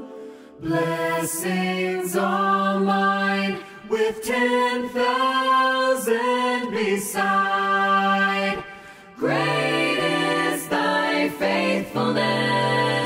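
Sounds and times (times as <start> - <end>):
a cappella choir singing chords: 0.0 - 13.0.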